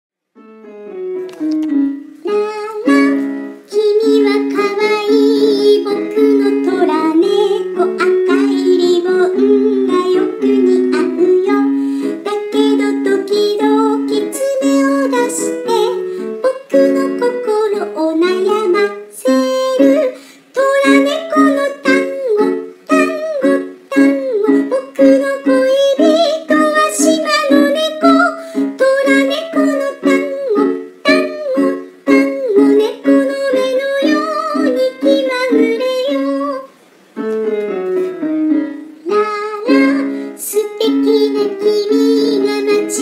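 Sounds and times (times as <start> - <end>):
electronic keyboard melody: 0.4 - 43.0.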